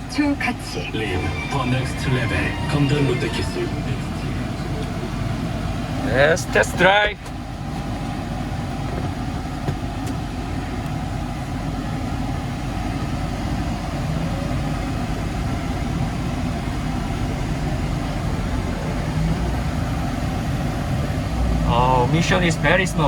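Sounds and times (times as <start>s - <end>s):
road noise inside cab: 0.0s - 23.0s
truck engine running: 0.0s - 23.0s.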